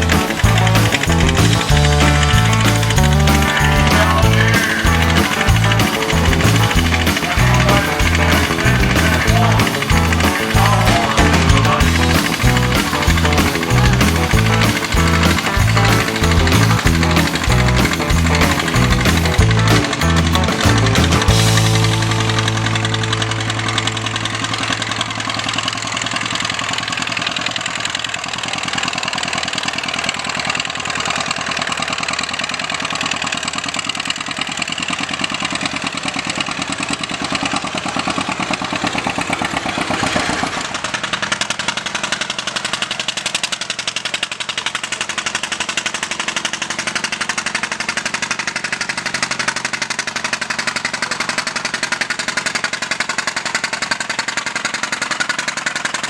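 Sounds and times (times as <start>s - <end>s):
engine running hard: 0.0s - 56.0s.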